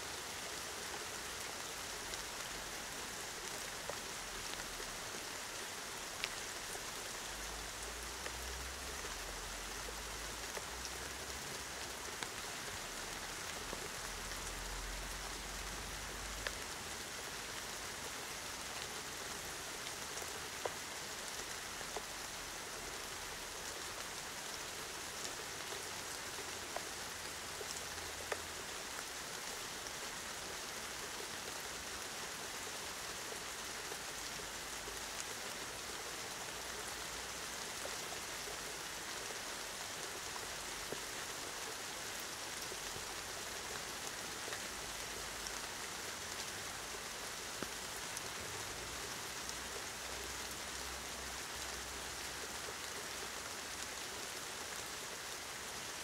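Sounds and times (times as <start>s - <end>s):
steady rain hiss: 0.0s - 56.0s
raindrops ticking close by: 0.2s - 56.0s.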